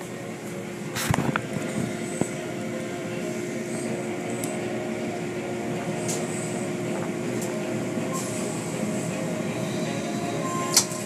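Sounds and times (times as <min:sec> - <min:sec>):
car wash machinery hum: 0:00.0 - 0:11.0.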